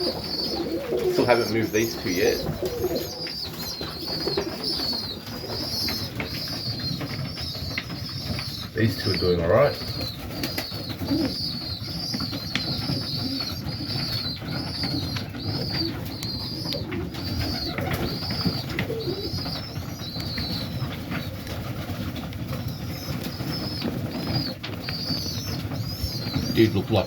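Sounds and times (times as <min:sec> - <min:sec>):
pigeon squabs peeping: 0:00.0 - 0:26.8
pigeon cooing: 0:00.0 - 0:27.0.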